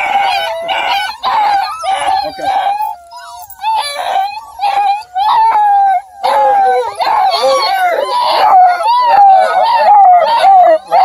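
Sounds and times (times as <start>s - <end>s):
puppies yelping and howling: 0.0s - 11.0s.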